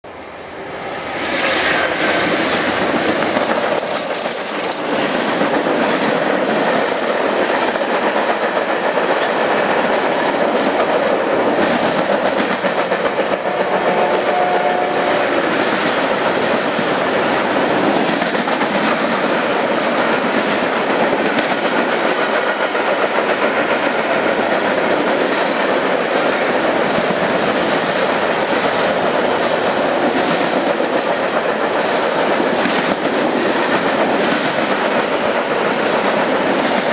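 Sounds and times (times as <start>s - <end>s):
freight train rolling past: 0.0s - 36.9s.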